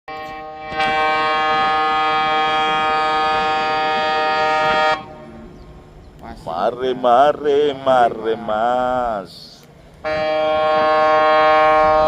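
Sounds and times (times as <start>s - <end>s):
ship's horn blast: 0.1s - 9.1s, 10.0s - 12.0s.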